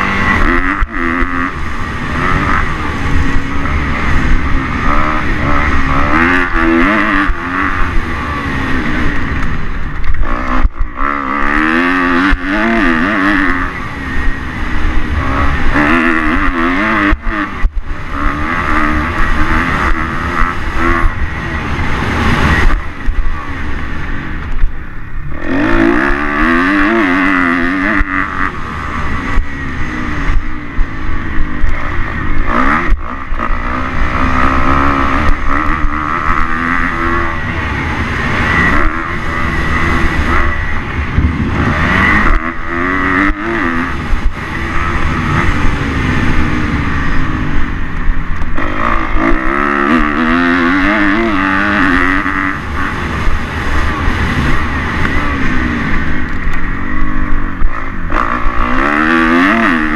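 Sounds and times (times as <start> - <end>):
motocross bike engine revving: 0.0 - 59.9
wind rumble on microphone: 0.0 - 59.9.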